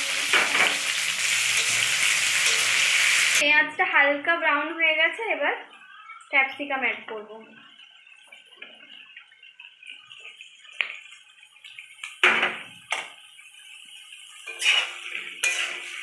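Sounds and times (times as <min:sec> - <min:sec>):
onions frying: 0:00.0 - 0:05.4, 0:06.0 - 0:16.0.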